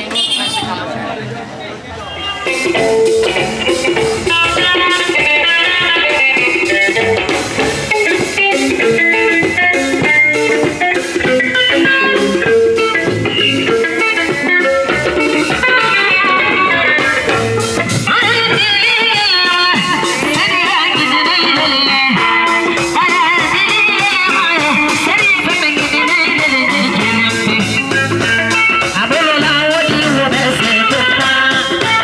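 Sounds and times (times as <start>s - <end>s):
drums: 0.0s - 32.0s
plucked guitar melody: 2.4s - 32.0s.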